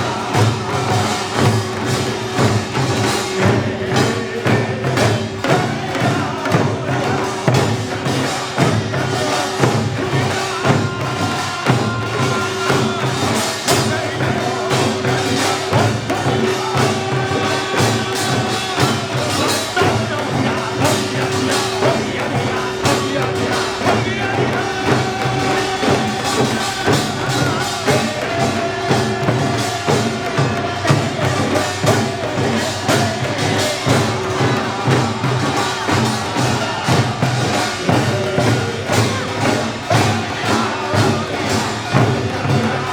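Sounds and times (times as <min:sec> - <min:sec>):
hand-drum and gong percussion: 0:00.0 - 0:42.9.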